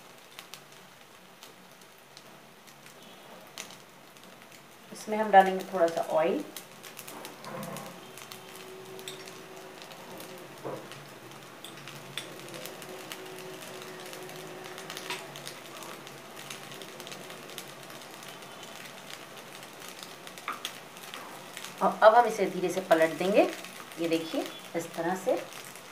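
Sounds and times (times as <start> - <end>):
bread frying in oil sizzle: 0.0 - 25.9
hot oil crackles and pops: 0.0 - 25.9.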